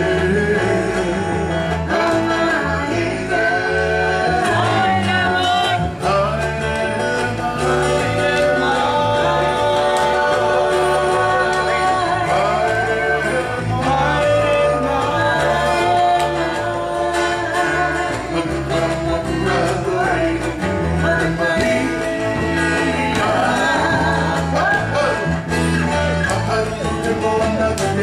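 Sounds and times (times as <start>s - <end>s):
people singing: 0.0s - 28.0s
rhythmic bass line: 0.0s - 28.0s.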